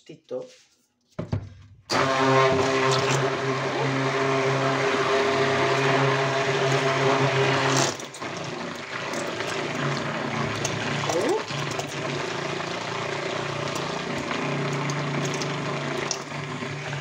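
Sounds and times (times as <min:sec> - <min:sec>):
stick blender motor hum: 0:01.9 - 0:17.0.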